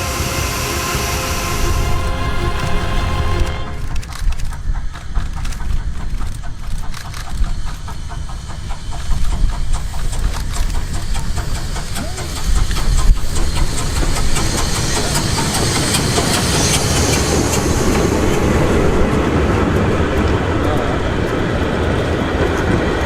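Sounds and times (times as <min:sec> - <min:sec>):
steam hiss: 0:00.0 - 0:22.8
steam locomotive rumble: 0:00.0 - 0:23.0.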